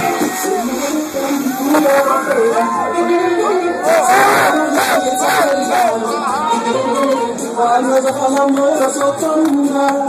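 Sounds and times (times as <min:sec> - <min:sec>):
party music: 0:00.0 - 0:10.0
people shouting and singing: 0:00.0 - 0:10.0.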